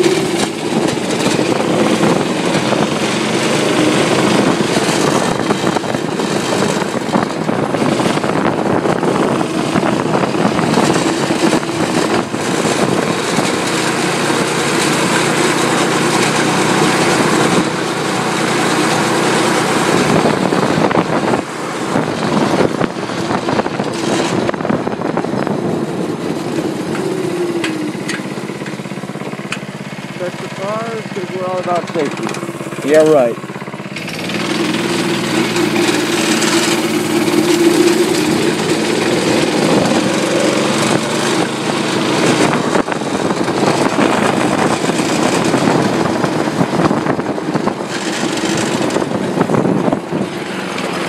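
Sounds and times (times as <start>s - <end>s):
go-kart engine running: 0.0s - 51.0s.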